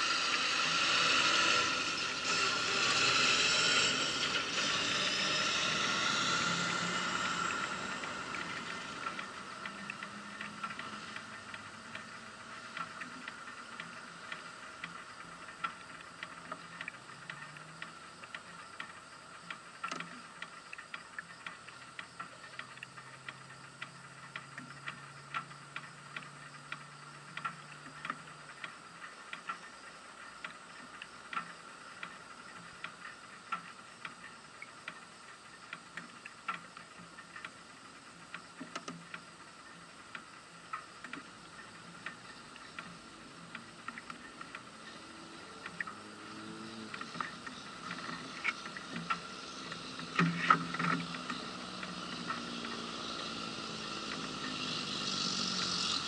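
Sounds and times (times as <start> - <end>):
sharp ticks and clicks: 0.0 - 56.0
steady hiss: 0.0 - 56.0.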